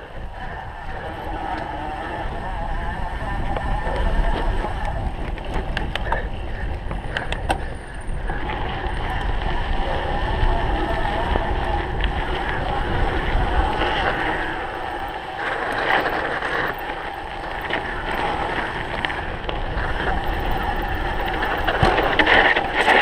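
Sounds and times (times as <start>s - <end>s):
bike tyres rumbling on rough ground: 0.0s - 23.0s
wind buffeting microphone: 0.0s - 23.0s.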